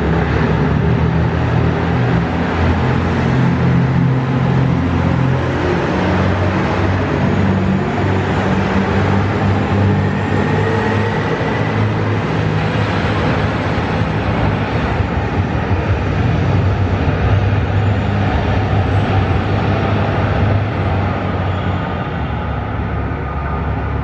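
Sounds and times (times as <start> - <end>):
diesel train engine drone: 0.0 - 24.0
wheel and rail noise: 0.0 - 24.0.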